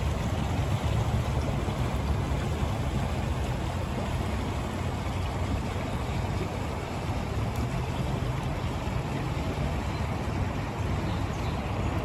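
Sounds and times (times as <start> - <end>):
creek water running over pebbles: 0.0 - 12.0.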